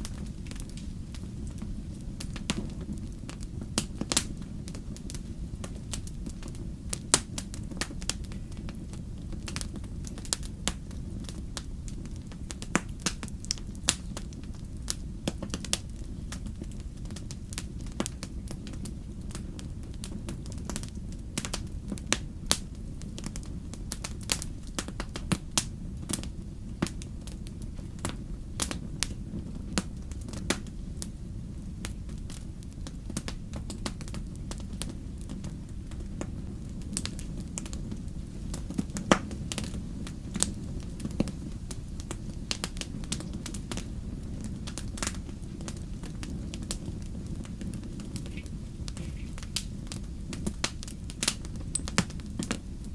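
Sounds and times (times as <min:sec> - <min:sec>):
fire crackles and pops: 0:00.0 - 0:52.9
low rumble of flames: 0:00.0 - 0:52.9.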